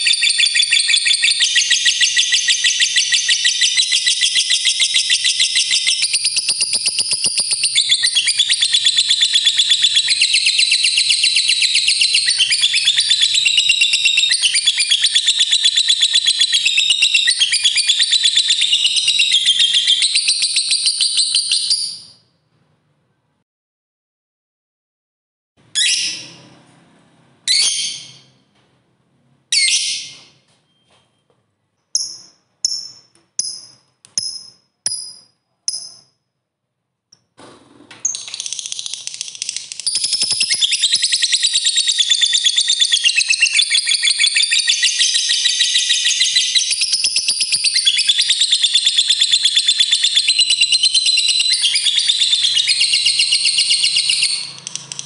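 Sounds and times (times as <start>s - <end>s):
lovebird chirps: 0.0s - 22.2s, 27.5s - 28.4s, 31.9s - 36.2s, 38.0s - 55.0s.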